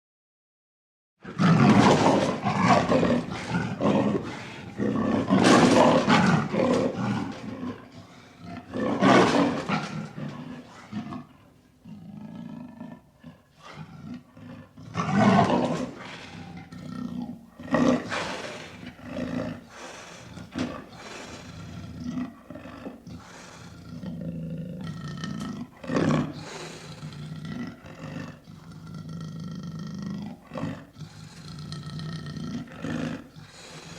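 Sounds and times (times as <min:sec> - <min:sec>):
lion growling: 0:01.2 - 0:33.9
lion roaring: 0:01.2 - 0:33.9.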